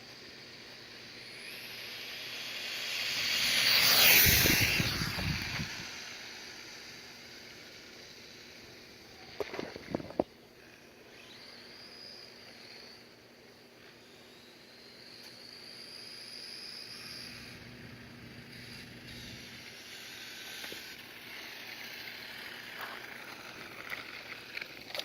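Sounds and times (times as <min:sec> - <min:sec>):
rc truck motor whine passing: 0:00.0 - 0:25.0.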